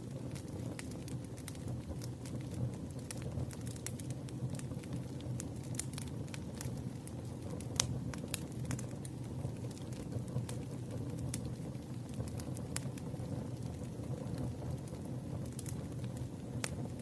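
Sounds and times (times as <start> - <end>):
campfire crackling and popping: 0.0 - 17.0
low rumble of burning wood: 0.0 - 17.0.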